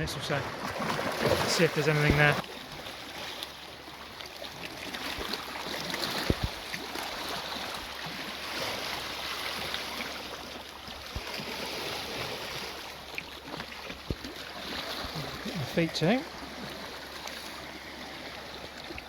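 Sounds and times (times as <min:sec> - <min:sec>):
seawater lapping over rocks: 0:00.0 - 0:19.0.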